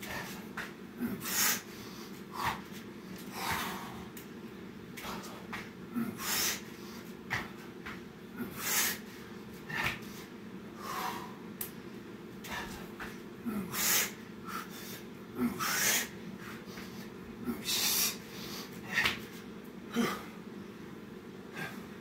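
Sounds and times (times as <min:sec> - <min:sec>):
man breathing heavily: 0:00.0 - 0:22.0.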